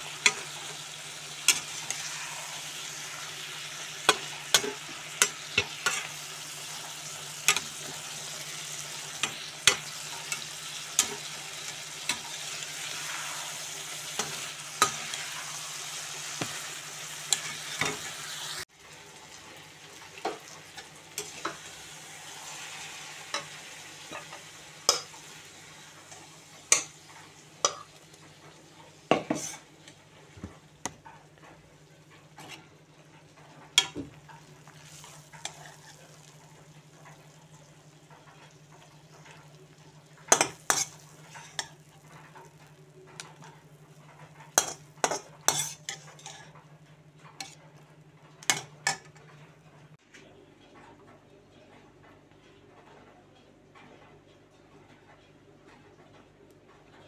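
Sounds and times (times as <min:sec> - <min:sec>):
curry sizzling in a wok: 0:00.0 - 0:49.2.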